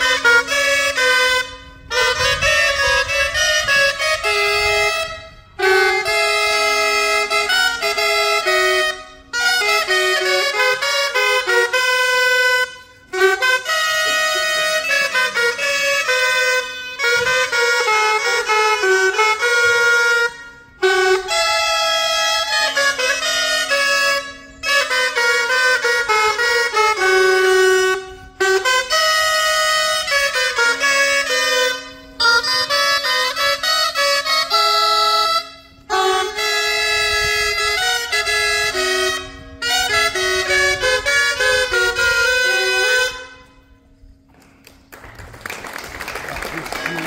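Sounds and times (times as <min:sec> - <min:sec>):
folk dance music on reed pipes: 0:00.0 - 0:44.7, 0:46.4 - 0:47.0.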